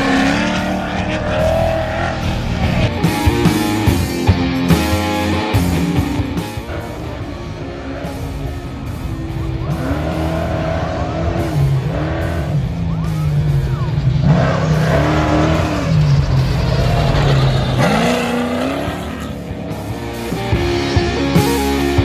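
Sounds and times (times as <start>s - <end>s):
music: 0.0s - 22.0s
race truck engine revving: 0.0s - 22.0s.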